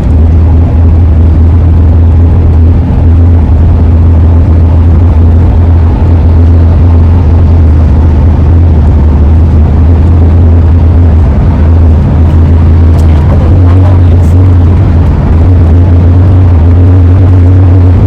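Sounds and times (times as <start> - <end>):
roof rack howling in wind: 0.0 - 18.0
van driving noise: 0.0 - 18.0.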